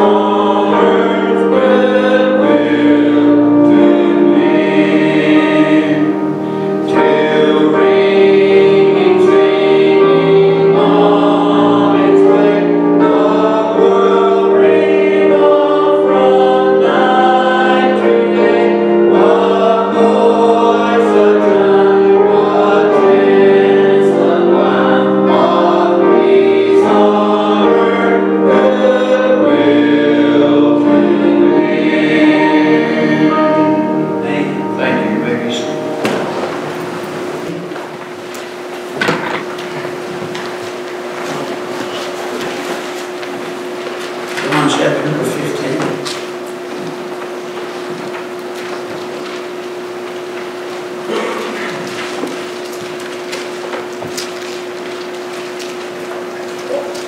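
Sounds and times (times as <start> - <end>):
congregation singing a hymn: 0.0 - 57.0
organ: 0.0 - 57.0
piano: 0.0 - 57.0.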